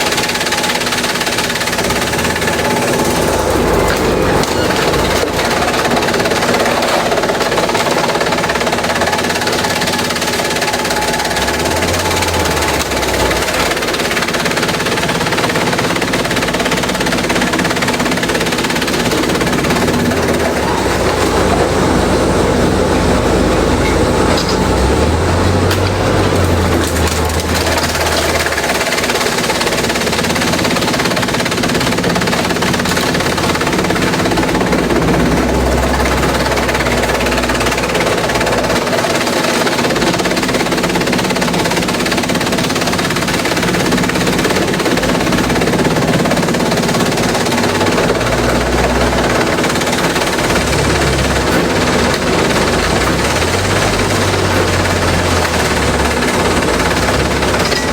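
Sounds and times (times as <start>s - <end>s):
shredder cracking and clattering: 0.0s - 57.9s
shredder mechanical hum: 0.0s - 57.9s.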